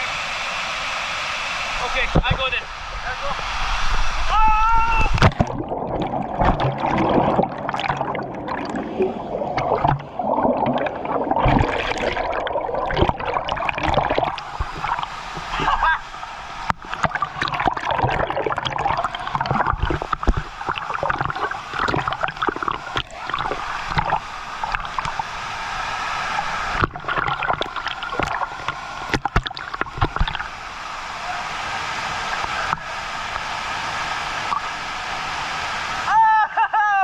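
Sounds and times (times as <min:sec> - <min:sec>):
waterfall water rushing: 0:00.0 - 0:29.2, 0:30.4 - 0:36.2.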